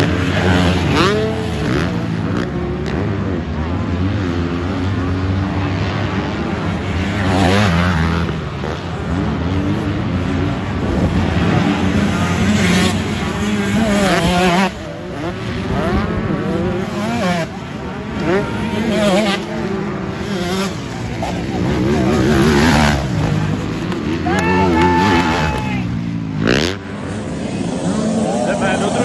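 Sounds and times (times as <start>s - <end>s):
racing engine revving: 0.0s - 29.0s.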